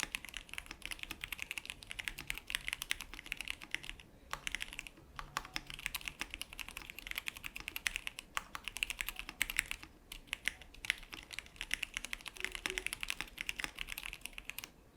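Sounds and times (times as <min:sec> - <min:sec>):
mechanical keyboard typing: 0:00.0 - 0:14.7.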